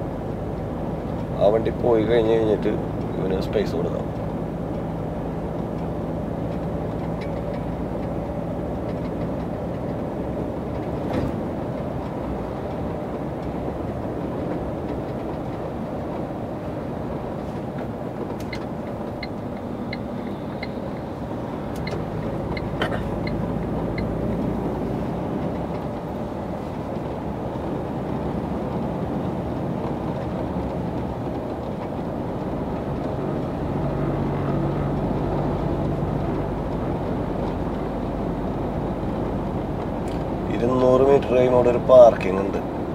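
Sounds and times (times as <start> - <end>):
lorry engine drone: 0.0 - 42.9
road rumble: 0.0 - 42.9.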